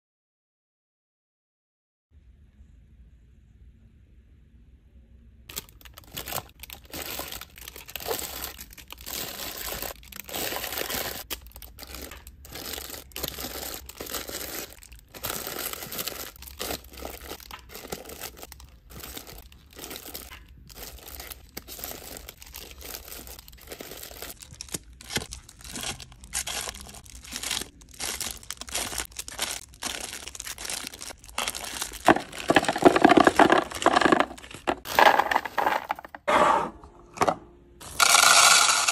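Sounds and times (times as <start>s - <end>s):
plastic wrappers crinkling: 5.5s - 36.2s, 37.8s - 38.9s
chocolates clattering into plastic bin: 5.5s - 36.3s, 37.2s - 38.9s.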